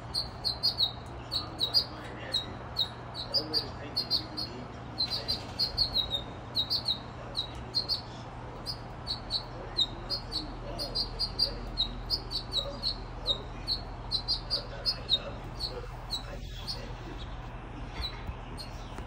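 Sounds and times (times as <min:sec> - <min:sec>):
faint low hum: 0:00.0 - 0:19.0
small songbirds chirping: 0:00.0 - 0:19.0.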